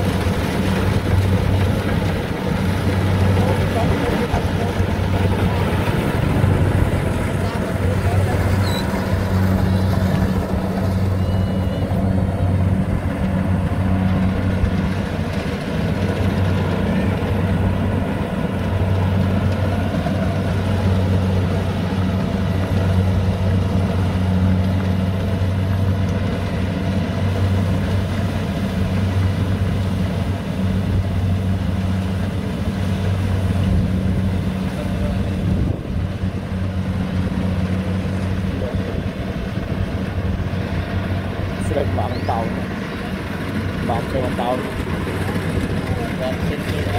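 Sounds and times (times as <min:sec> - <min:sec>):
diesel engine drone: 0:00.0 - 0:46.9
harvester clatter: 0:00.0 - 0:46.9.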